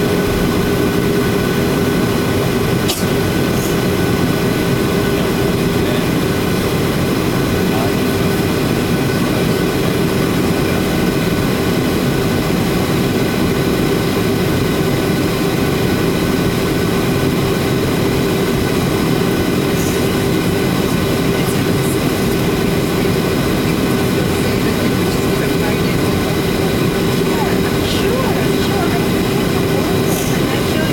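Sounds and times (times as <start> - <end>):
jet engine and airflow drone: 0.0 - 30.9.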